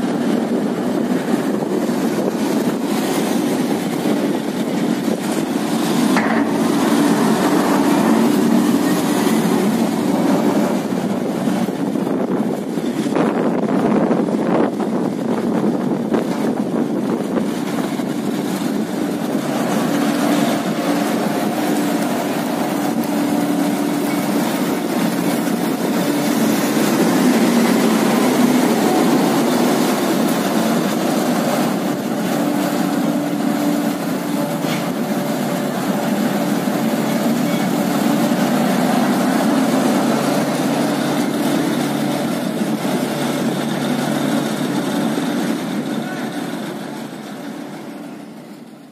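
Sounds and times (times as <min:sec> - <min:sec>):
diesel engine running: 0:00.0 - 0:48.9
tub grinder grinding hay: 0:00.0 - 0:48.9.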